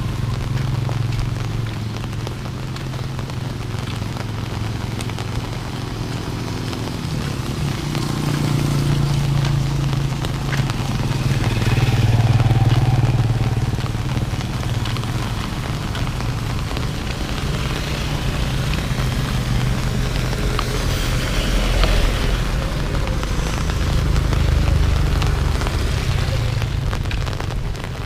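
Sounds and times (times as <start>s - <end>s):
motorcycle engine humming: 0.0s - 28.0s
rain pattering: 0.0s - 28.0s.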